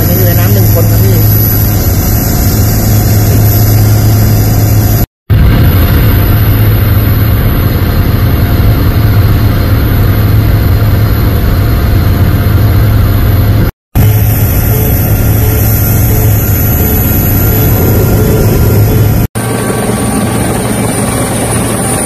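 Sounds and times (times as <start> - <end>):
aircraft engine drone in cabin: 0.0 - 22.0.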